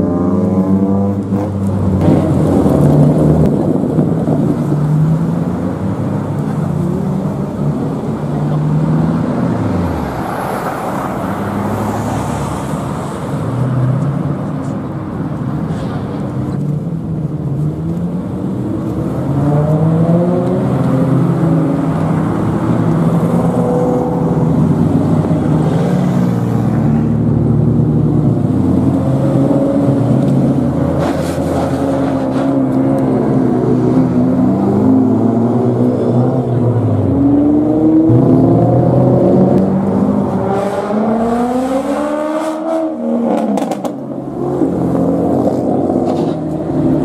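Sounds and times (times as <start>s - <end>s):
cars with loud exhausts revving: 0.0s - 47.0s.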